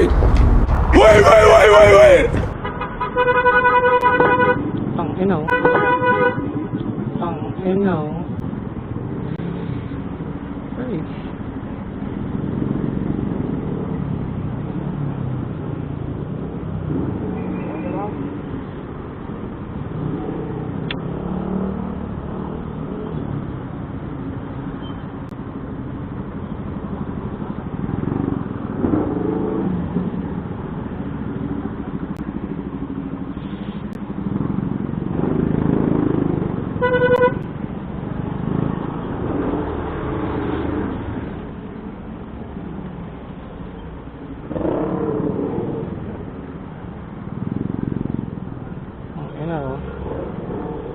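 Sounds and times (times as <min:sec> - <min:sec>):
vehicle engines passing: 0:00.0 - 0:50.9.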